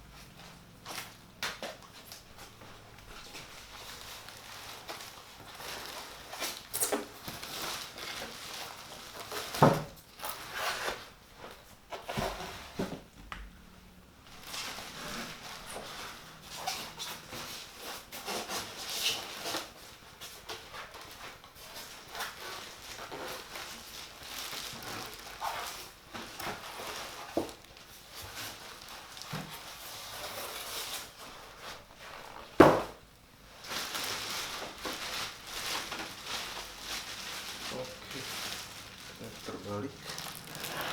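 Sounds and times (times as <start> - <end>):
cardboard rustling and scraping: 0.8 - 13.2, 14.2 - 40.9.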